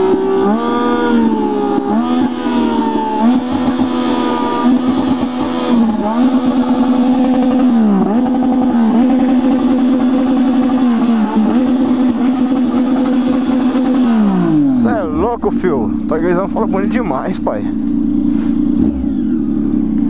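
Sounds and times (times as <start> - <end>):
motorcycle revving on limiter: 0.0 - 20.0.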